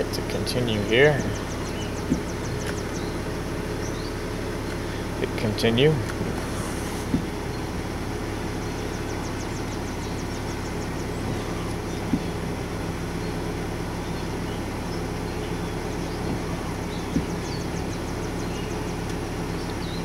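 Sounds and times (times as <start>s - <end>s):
low mechanical hum in car cabin: 0.0s - 20.0s.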